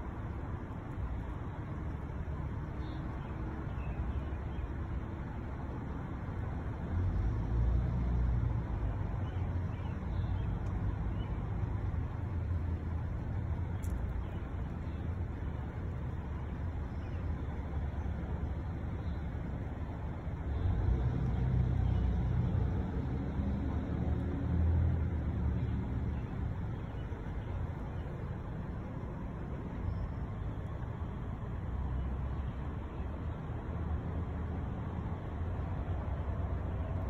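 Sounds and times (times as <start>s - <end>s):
traffic rumble: 0.0s - 37.0s.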